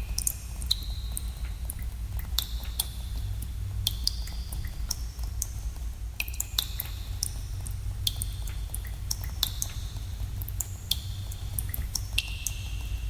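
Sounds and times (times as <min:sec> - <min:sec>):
water drops plinking into water: 0:00.0 - 0:03.0, 0:03.8 - 0:05.5, 0:06.2 - 0:13.0.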